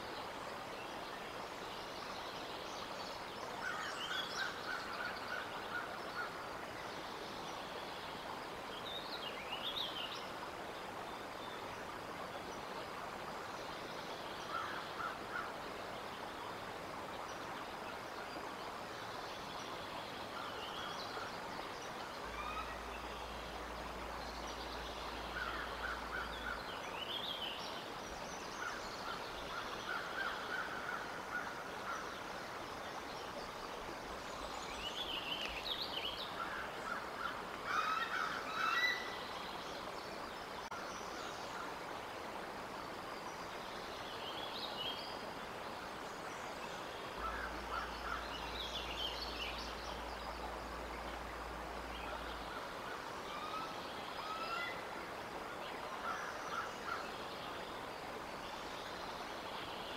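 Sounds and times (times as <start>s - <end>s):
outdoor hiss: 0.0s - 59.9s.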